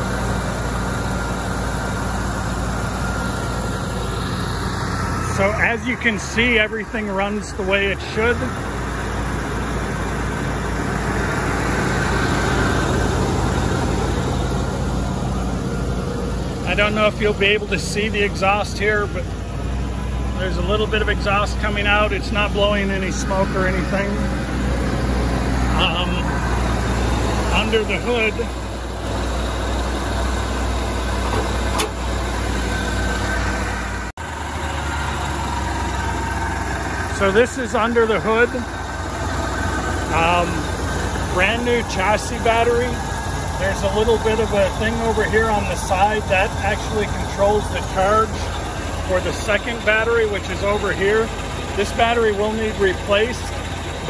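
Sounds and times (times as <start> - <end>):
van engine idling: 0.0 - 54.0.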